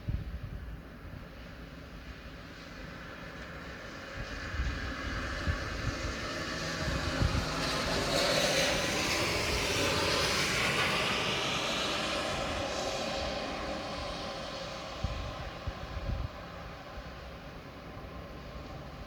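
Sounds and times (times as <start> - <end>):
wet road noise: 1.7 - 19.0.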